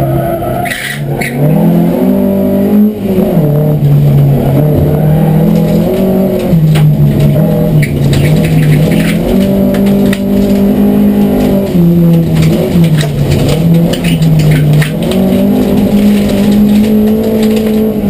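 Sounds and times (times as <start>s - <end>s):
race car engine at full effort: 0.0s - 18.0s.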